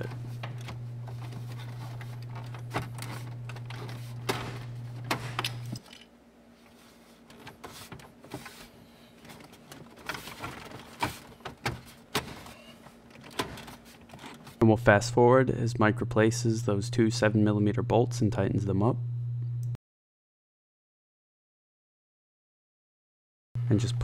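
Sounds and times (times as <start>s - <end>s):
low steady hum: 0.0s - 19.8s.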